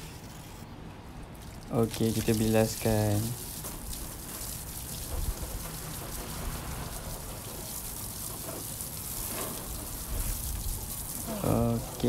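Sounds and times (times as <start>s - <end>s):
hose water spraying and splashing: 1.3s - 12.0s.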